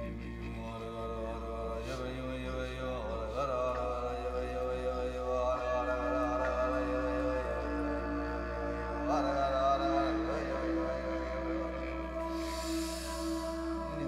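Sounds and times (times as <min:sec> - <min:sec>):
chanted mantra singing: 0:00.0 - 0:14.0
steady drone: 0:00.0 - 0:14.0.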